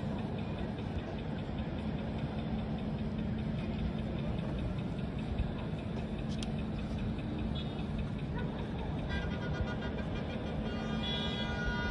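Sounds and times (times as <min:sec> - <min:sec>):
city background noise: 0:00.0 - 0:11.9.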